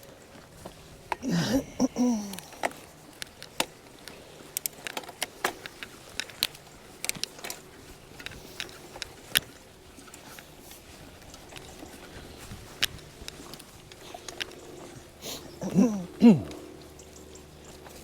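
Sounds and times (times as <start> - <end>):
faint steady background noise: 0.0 - 18.0.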